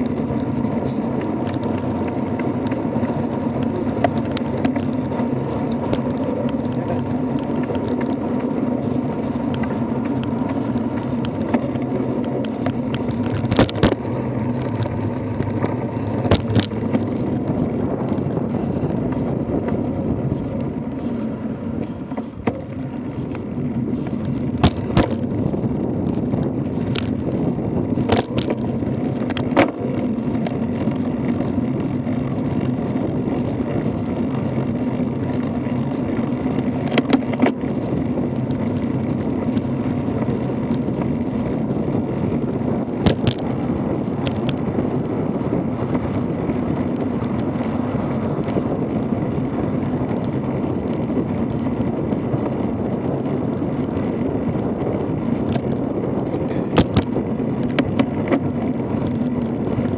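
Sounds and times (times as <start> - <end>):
bicycle tyre noise: 0.0 - 59.9
low hum: 0.0 - 59.9
wind rumble: 0.0 - 59.9.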